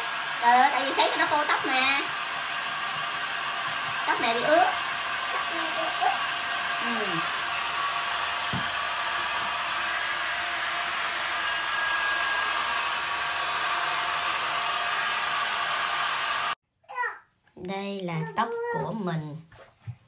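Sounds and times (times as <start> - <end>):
hair dryer blowing: 0.0 - 16.6.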